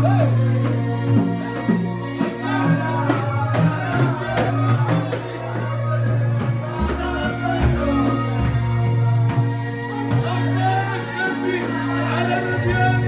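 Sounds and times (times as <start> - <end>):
drum beats: 0.0 - 11.7
men's group singing: 0.0 - 13.0.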